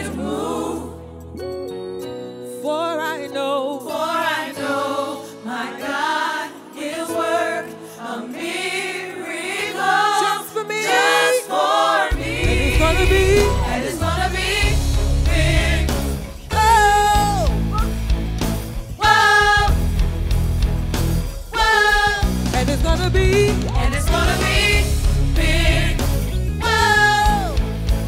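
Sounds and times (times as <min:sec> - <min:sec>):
voices singing with vibrato: 0:00.0 - 0:01.2, 0:03.7 - 0:17.9, 0:19.0 - 0:19.9, 0:21.5 - 0:27.6.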